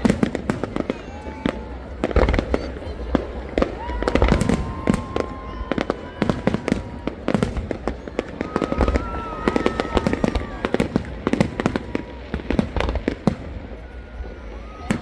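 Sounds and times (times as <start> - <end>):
fireworks bangs and crackles: 0.0 - 15.0
fireworks whistling: 0.0 - 15.0.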